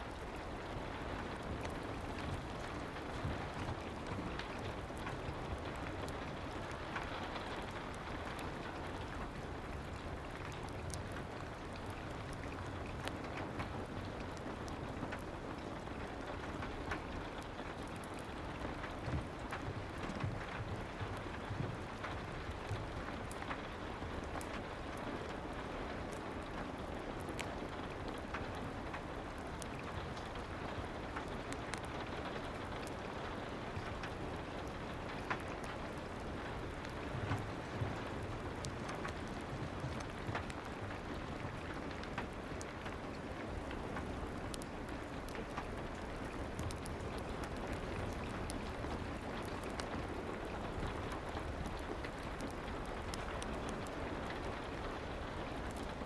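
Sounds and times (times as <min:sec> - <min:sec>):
fireplace crackles: 0:00.0 - 0:56.0
soft rain: 0:00.0 - 0:56.0.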